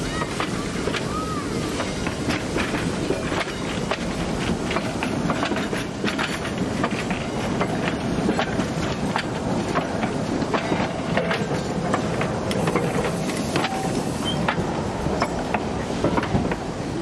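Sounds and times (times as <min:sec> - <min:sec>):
train wheels rumbling on rails: 0:00.0 - 0:17.0
wheels clicking over track joints: 0:00.0 - 0:17.0.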